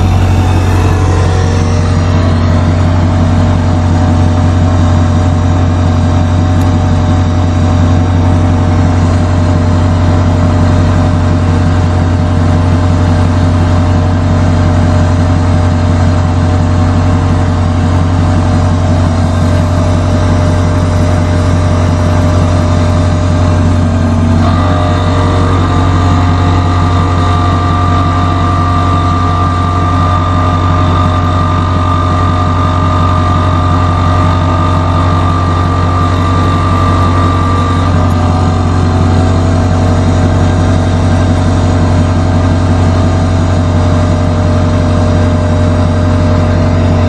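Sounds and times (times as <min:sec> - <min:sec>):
vehicle engine droning: 0:00.0 - 0:47.0.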